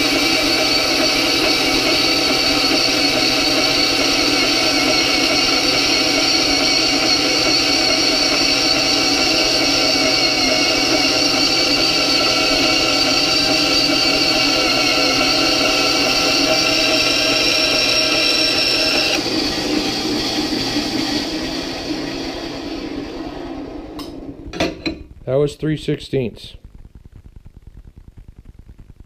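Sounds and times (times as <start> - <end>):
bandsaw whining cutting metal: 0.0 - 24.2.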